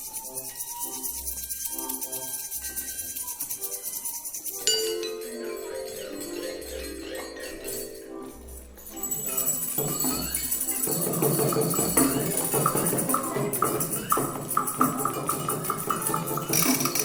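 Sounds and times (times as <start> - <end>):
tambourine jingling: 0.0 - 17.0.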